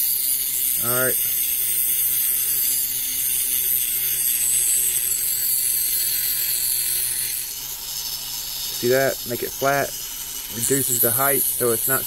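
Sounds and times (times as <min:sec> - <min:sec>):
cutoff wheel grinding metal: 0:00.0 - 0:12.0
rotary tool motor hum: 0:00.0 - 0:12.0.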